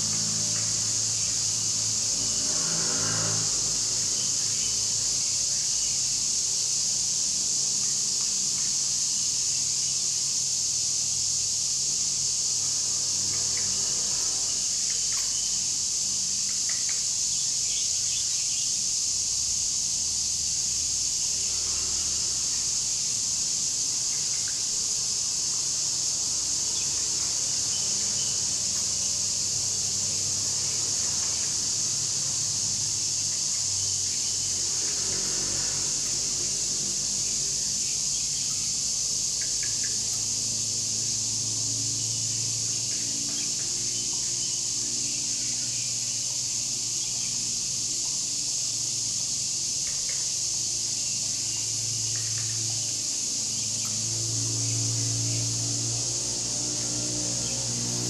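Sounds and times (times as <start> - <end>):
insects buzzing: 0.0 - 58.0.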